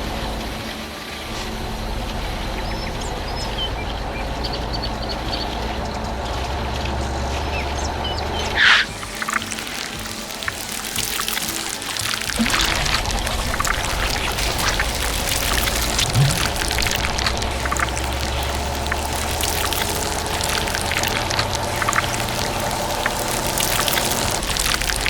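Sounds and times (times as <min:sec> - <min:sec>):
low machine hum: 0:00.0 - 0:09.2, 0:12.4 - 0:25.0
pouring rushing noise: 0:00.0 - 0:25.0.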